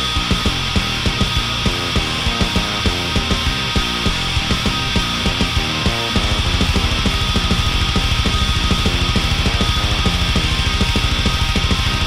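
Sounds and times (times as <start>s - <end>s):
black metal music: 0.0s - 12.0s.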